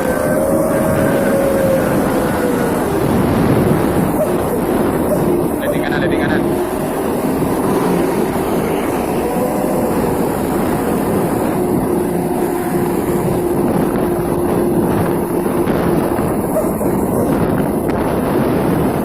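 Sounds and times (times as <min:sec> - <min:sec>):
truck engine with loud exhaust: 0:00.0 - 0:19.0.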